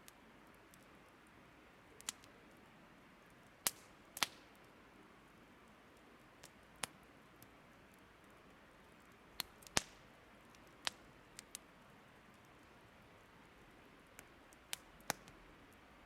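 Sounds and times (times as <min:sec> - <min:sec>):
burning wood crackling: 0:00.0 - 0:16.0.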